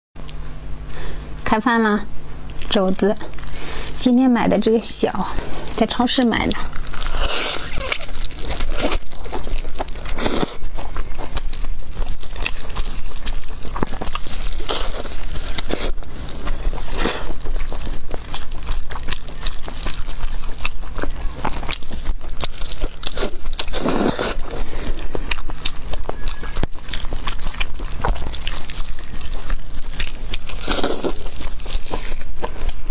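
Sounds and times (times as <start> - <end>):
chewing with wet mouth smacks: 2.4 - 32.9
loud crunching bites: 4.8 - 32.9.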